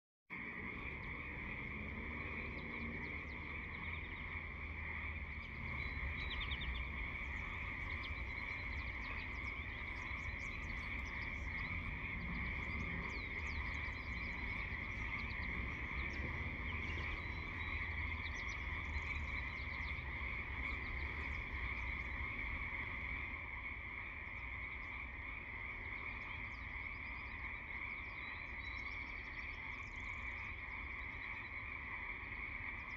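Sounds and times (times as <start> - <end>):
frogs calling: 0.4 - 32.9.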